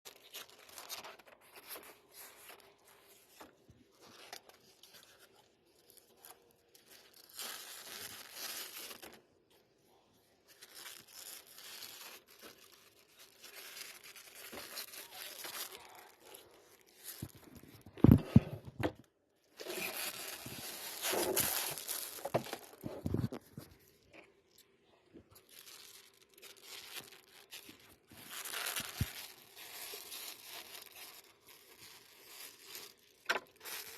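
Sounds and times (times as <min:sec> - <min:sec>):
packaging crinkling and tearing: 0:00.1 - 0:09.4, 0:10.3 - 0:18.5, 0:19.5 - 0:33.9.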